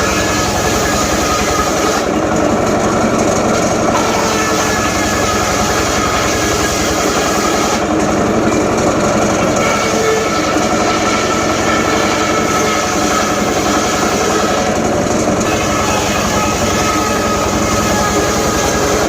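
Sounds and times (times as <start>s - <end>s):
circular saw cutting wood: 0.0s - 19.0s.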